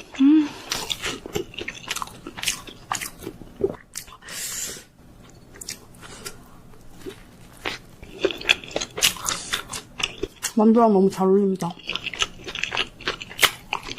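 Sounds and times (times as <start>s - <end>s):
wet chewing: 0.0s - 4.2s, 5.5s - 10.6s, 11.6s - 13.9s.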